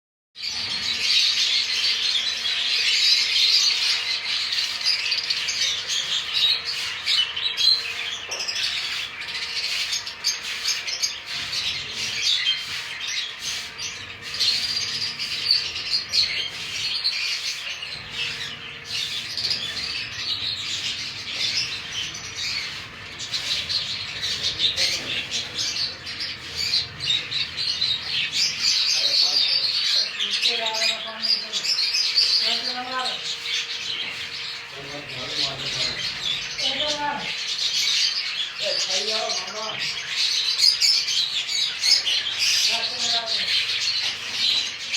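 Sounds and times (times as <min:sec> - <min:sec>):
cage birds chirping and squawking: 0:00.4 - 0:44.9.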